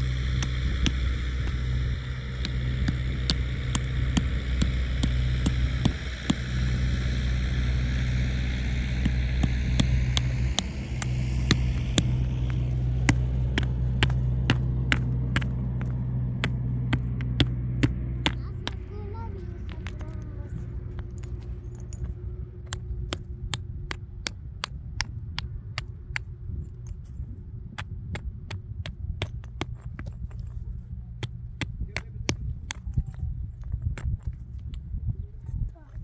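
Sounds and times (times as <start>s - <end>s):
motor humming: 0.0s - 35.4s.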